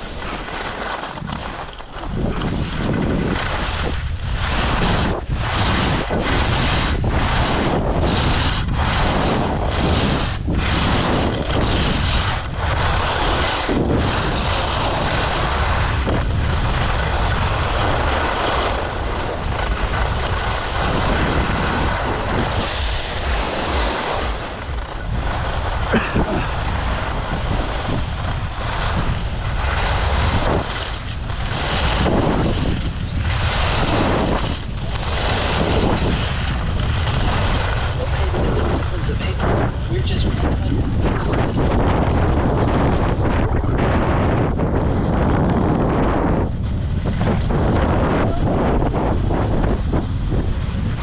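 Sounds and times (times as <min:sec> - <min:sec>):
skis scraping on snow: 0:00.0 - 0:51.0
wind buffeting microphone: 0:00.0 - 0:51.0.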